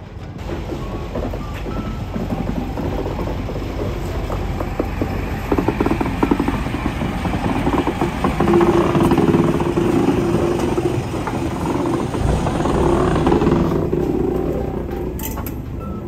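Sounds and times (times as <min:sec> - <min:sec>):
diesel locomotive engine droning: 0:00.0 - 0:16.0.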